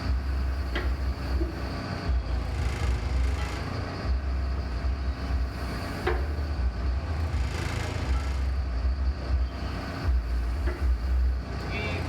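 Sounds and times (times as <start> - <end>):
large engine rumbling: 0.0 - 12.0.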